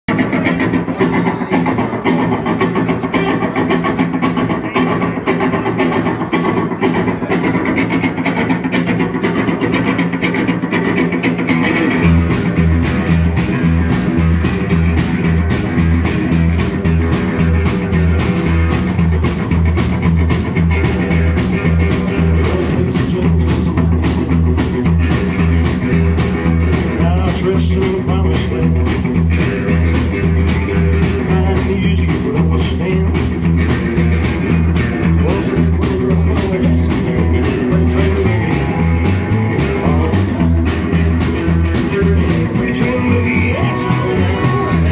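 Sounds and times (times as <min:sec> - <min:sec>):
rockabilly band playing: 0:00.0 - 0:44.9.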